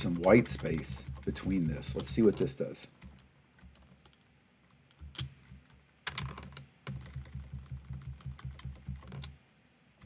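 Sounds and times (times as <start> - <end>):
keyboard typing: 0.0 - 9.4.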